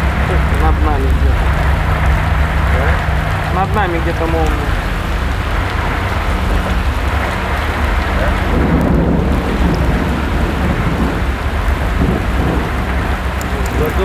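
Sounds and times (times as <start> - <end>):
gale-force wind: 0.0 - 14.0
heavy rain: 0.0 - 14.0
thunder rumbling: 0.0 - 14.0.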